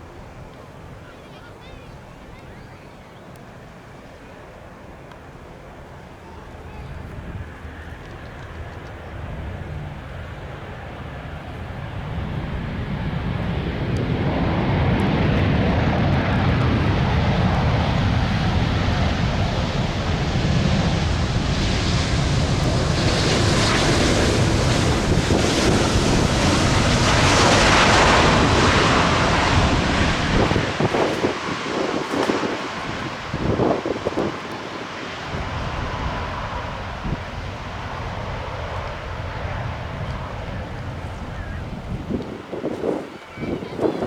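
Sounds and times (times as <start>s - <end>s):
jet airliner passing: 3.7s - 44.0s
wind buffeting microphone: 4.7s - 44.0s.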